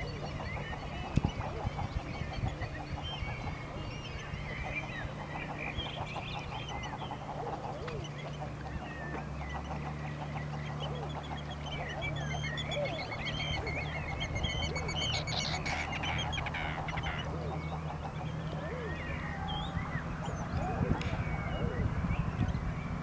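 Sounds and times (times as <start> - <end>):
flock of birds chirping: 0.0 - 23.0
low background hum: 0.0 - 23.0.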